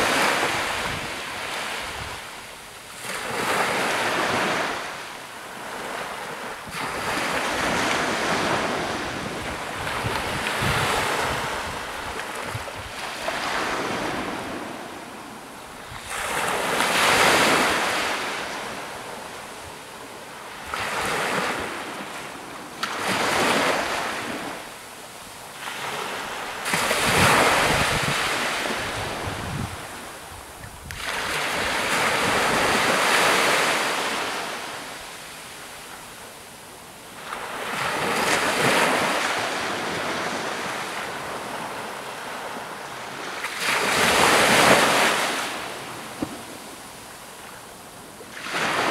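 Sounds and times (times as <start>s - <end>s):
small waves breaking on a beach: 0.0s - 48.9s.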